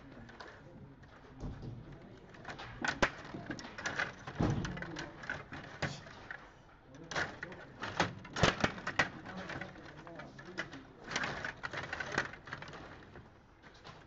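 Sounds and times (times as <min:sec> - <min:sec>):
plastic clicks and clacks: 0:00.0 - 0:14.0.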